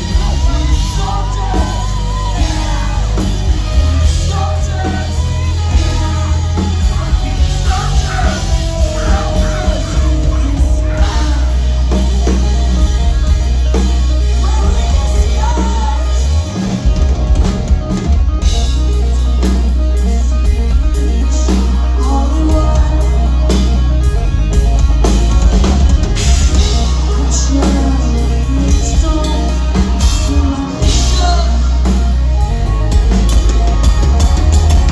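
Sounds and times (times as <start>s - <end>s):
distorted guitars: 0.0s - 34.9s
drums: 0.0s - 34.9s
heavy bass: 0.0s - 34.9s
sung vocals: 0.0s - 34.9s.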